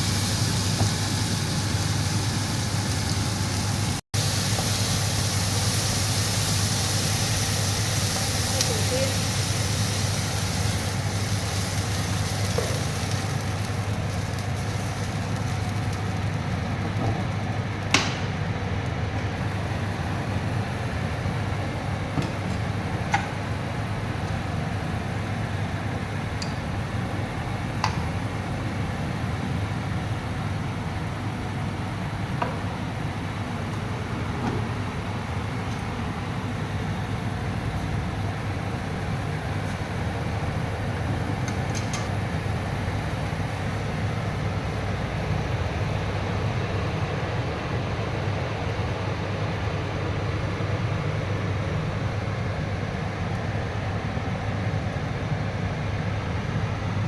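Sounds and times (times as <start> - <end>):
steady hiss and low hum: 0.0 - 57.0.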